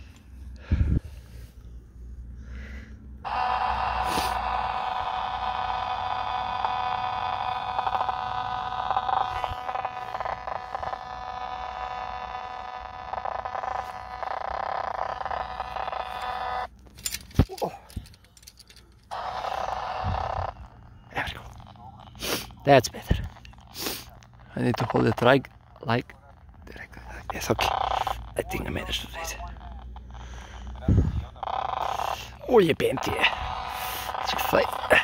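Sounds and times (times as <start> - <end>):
tv speaker buzz with hiss: 3.2 - 16.7, 19.1 - 35.0
sharp clicks: 3.3 - 35.0.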